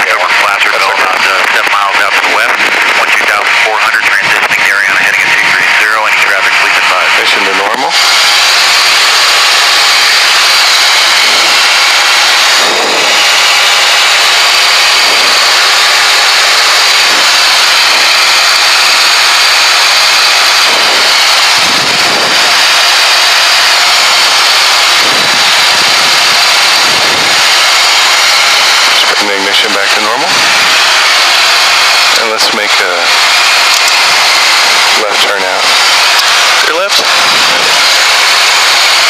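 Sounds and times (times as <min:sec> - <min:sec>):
rushing airflow and jet engines: 0:00.0 - 0:39.0.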